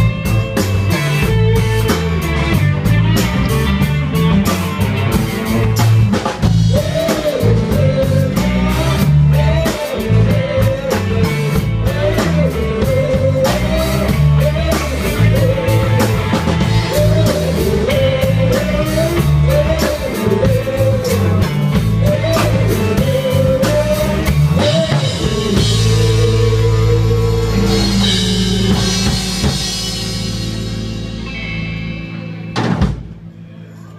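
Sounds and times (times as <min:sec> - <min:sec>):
drum kit playing: 0:00.0 - 0:33.4
bass guitar: 0:00.0 - 0:33.9
electric guitars: 0:00.0 - 0:33.9.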